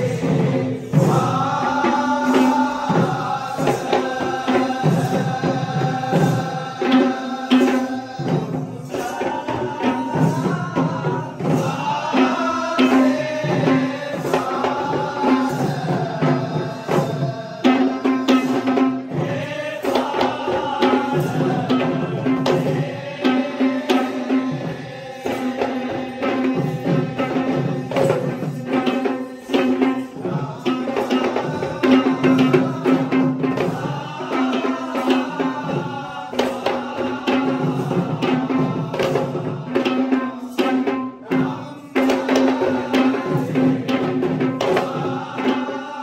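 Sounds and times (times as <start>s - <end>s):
drums beaten in quick patterns: 0.0s - 46.0s.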